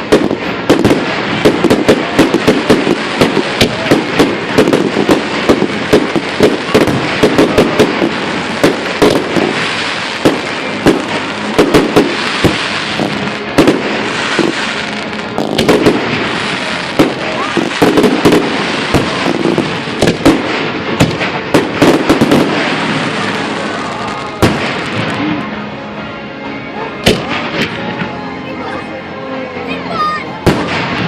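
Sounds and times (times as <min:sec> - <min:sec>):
fireworks bangs and crackles: 0:00.0 - 0:25.9, 0:26.9 - 0:28.2, 0:30.0 - 0:31.0.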